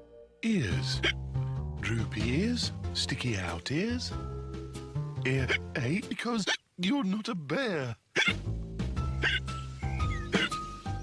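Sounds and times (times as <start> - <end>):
cartoon background music: 0.0 - 6.5, 8.2 - 11.0.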